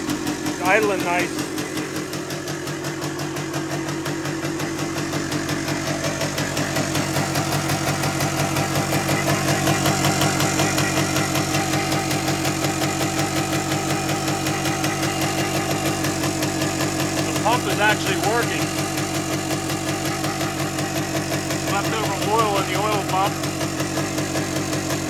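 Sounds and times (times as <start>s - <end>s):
two-stroke motorcycle engine idling: 0.0s - 25.0s.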